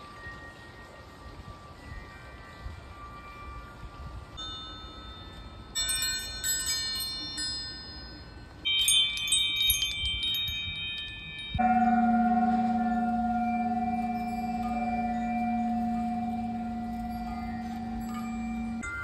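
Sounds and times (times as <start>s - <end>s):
high tinkling wind chimes: 0.0s - 19.0s
large metal bell chime: 0.0s - 19.0s
metal tube wind chime ringing: 0.0s - 19.0s.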